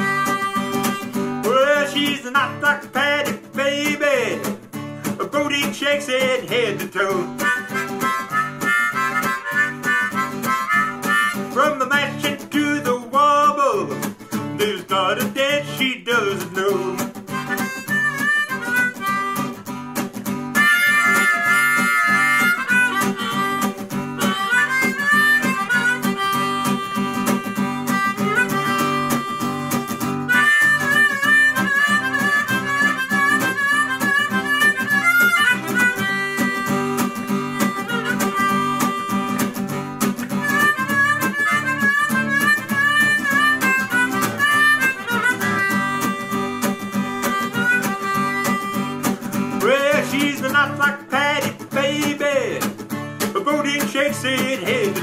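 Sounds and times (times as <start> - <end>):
harmonica solo: 0.0 - 3.5, 6.5 - 12.5, 16.7 - 52.0
strummed acoustic guitar: 0.0 - 55.0.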